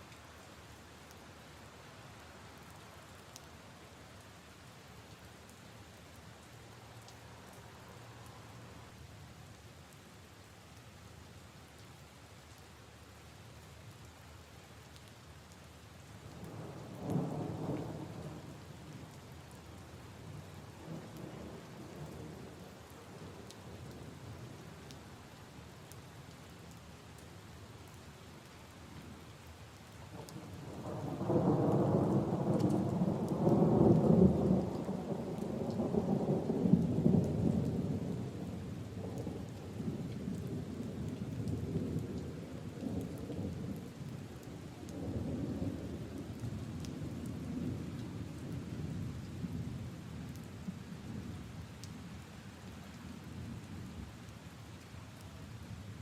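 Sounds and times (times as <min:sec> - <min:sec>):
rain on puddles and leaves: 0:00.0 - 0:56.0.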